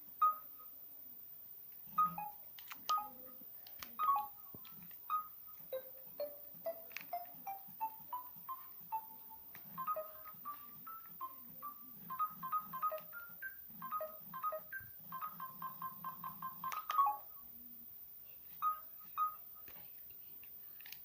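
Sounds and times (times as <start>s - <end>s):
electronic ringtone melody: 0.2s - 0.7s, 2.0s - 17.5s, 18.6s - 19.7s.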